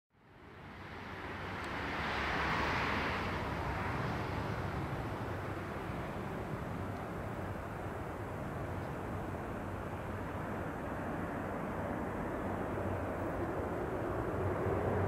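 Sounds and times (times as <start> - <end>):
distant turboprop aircraft drone: 0.2 - 15.0.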